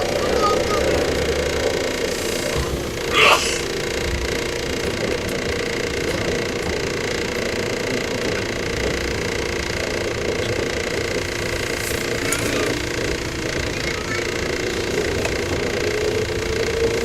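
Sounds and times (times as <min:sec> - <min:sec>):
train motor hum with pitched tones: 0:00.0 - 0:17.0.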